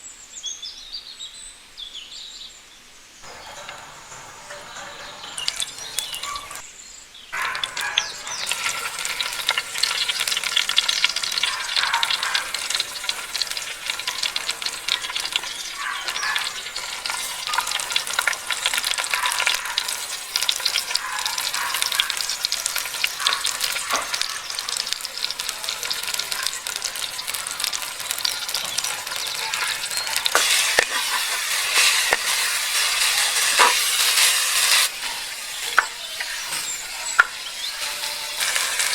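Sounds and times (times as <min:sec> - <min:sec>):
stirring clicks: 0:03.2 - 0:06.6, 0:07.4 - 0:38.9
food sizzling in hot oil: 0:03.2 - 0:38.9.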